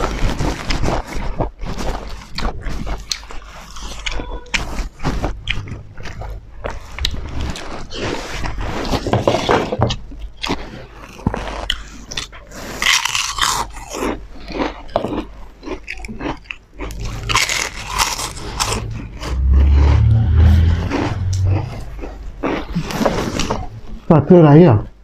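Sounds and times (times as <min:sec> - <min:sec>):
chewing and crunching snacks: 0:00.0 - 0:19.5, 0:21.9 - 0:24.4.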